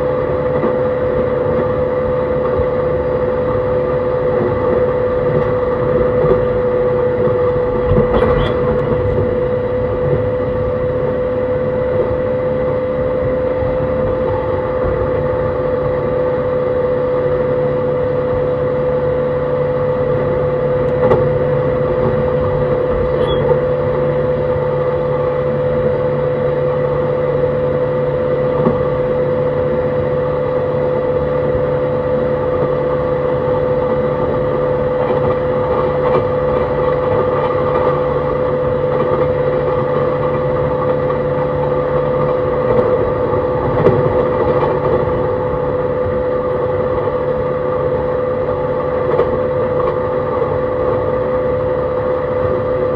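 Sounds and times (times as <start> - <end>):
lower hum: 0.0 - 52.9
train motor and inverter hum: 0.0 - 52.9
wheel-on-rail noise: 0.0 - 52.9.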